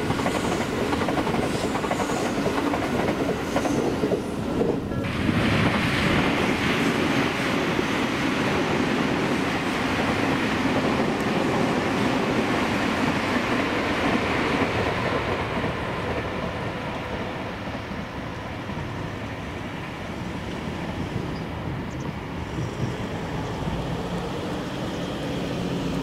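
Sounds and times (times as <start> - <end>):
electric train running past: 0.0 - 26.0.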